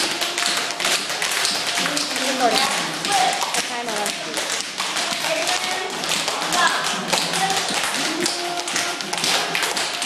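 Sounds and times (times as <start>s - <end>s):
tap shoes clicking on hard floor: 0.0s - 10.0s.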